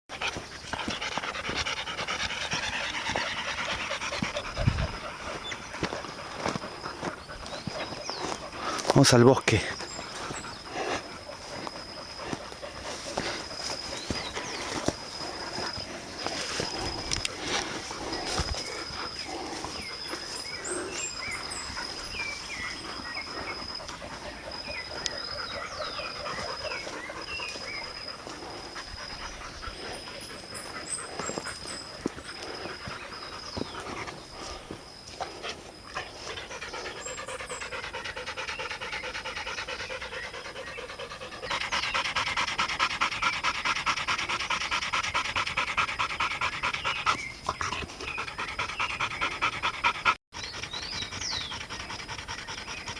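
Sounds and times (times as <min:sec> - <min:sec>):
dog panting: 0:00.1 - 0:52.9.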